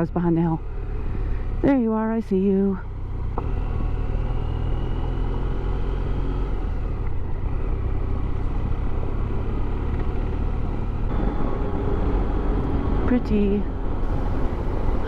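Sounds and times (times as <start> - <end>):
motorcycle engine cruising: 0.0 - 15.0
road noise: 0.0 - 15.0.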